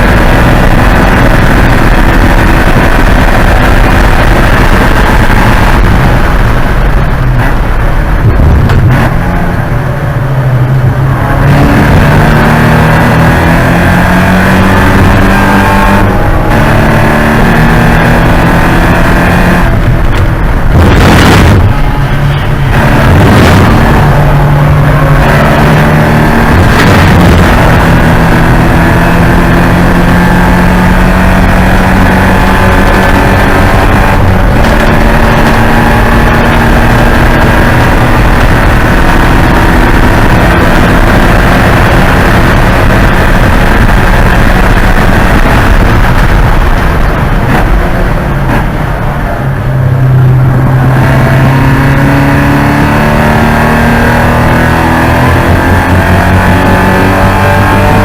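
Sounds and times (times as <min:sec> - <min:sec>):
car engine revving at speed: 0:00.0 - 0:58.0.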